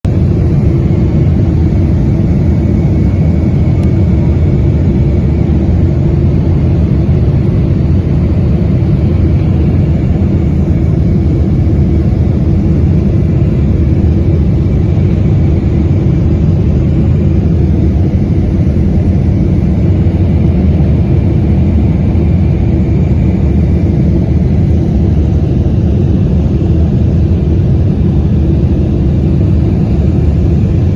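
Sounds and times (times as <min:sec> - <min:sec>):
aircraft engine rumble: 0:00.1 - 0:30.9.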